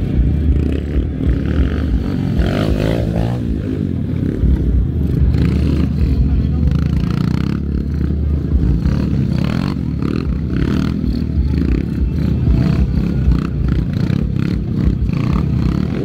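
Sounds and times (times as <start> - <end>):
small motorbike engines revving: 0.0 - 16.0.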